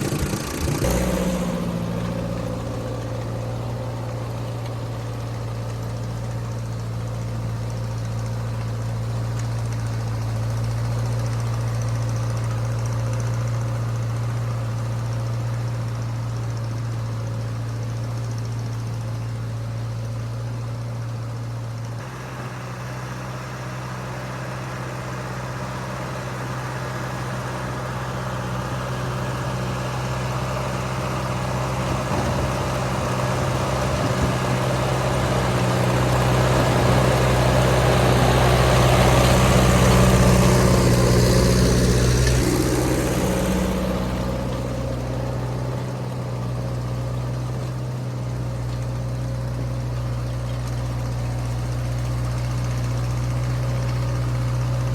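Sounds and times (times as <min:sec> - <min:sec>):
engine clatter and hiss: 0:00.0 - 0:54.9
tractor engine running: 0:00.0 - 0:54.9.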